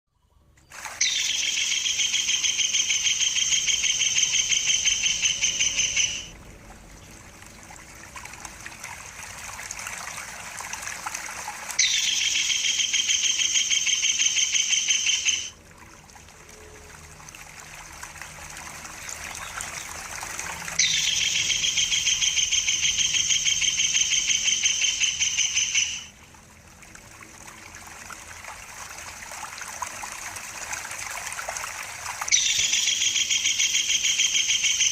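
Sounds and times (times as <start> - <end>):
running water trickling: 0.5 - 34.9.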